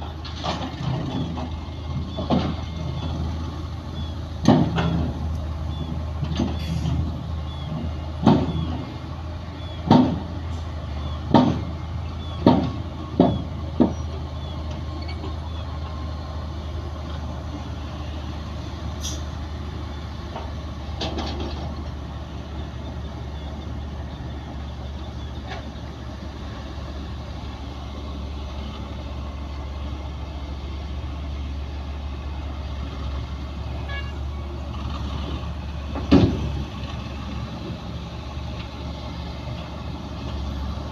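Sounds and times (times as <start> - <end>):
diesel earthmoving machinery droning: 0.0 - 40.9.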